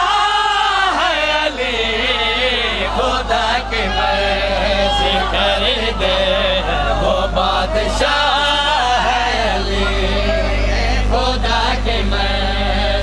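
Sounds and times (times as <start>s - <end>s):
men chanting together: 0.0s - 13.0s.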